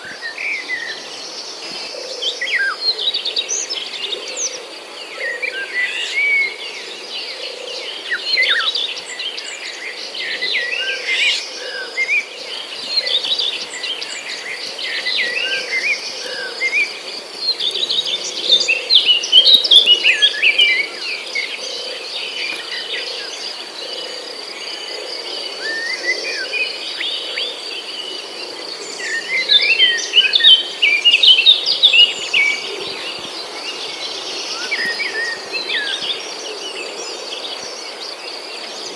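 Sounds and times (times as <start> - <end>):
birds chirping and singing: 0.0 - 38.9.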